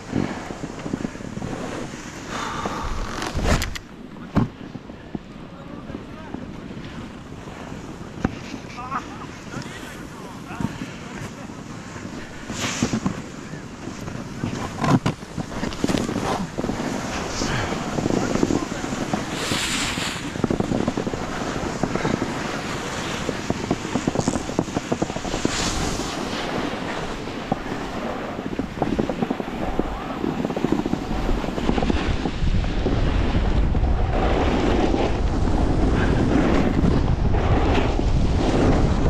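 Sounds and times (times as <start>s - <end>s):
snowboard carving packed snow: 0.0s - 39.0s
wind buffeting microphone: 0.0s - 39.0s.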